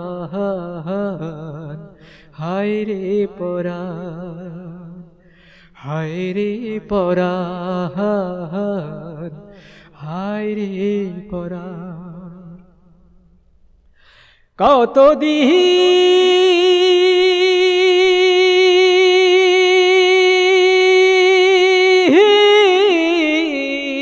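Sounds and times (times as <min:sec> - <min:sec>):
man singing with vibrato: 0:00.0 - 0:13.0, 0:14.5 - 0:24.0.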